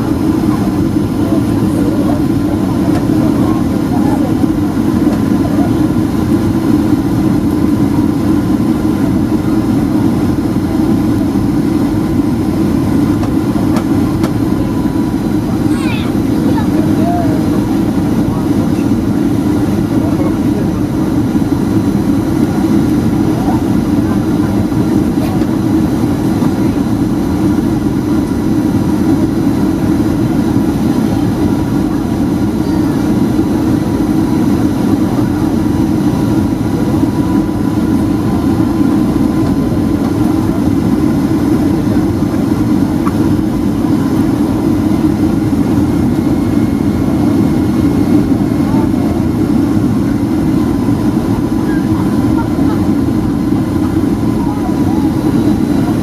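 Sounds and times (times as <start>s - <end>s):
aircraft cabin low rumble: 0.0s - 56.0s
faint steady engine whine: 0.0s - 56.0s.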